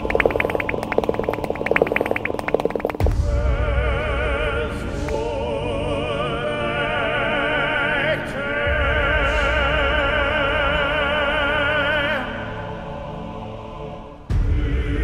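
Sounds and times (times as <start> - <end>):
operatic singing: 0.0 - 15.0.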